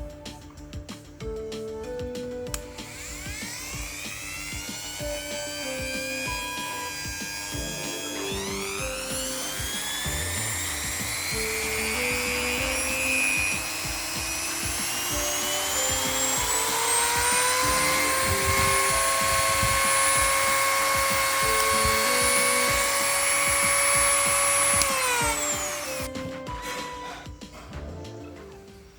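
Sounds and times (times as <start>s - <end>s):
background music: 0.0s - 28.9s
rotary tool motor whining: 2.5s - 27.2s.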